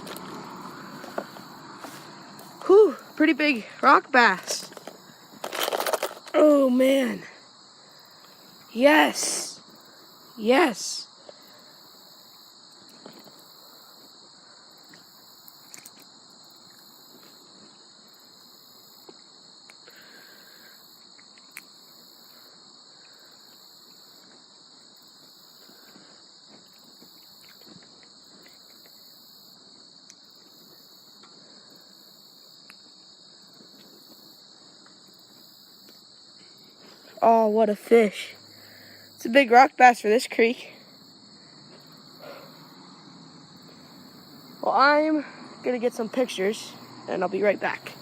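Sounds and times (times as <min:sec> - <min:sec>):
insect chorus trilling: 0:00.0 - 0:48.0.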